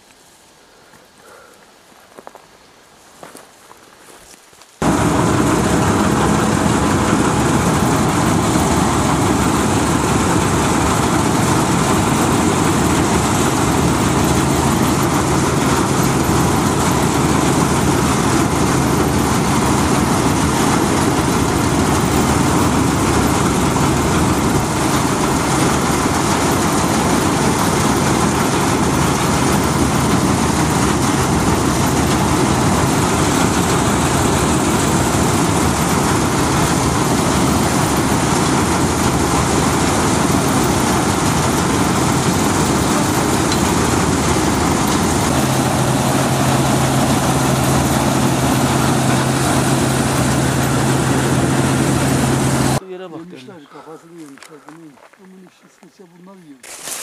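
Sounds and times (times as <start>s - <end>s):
threshing machine running: 4.8s - 52.8s.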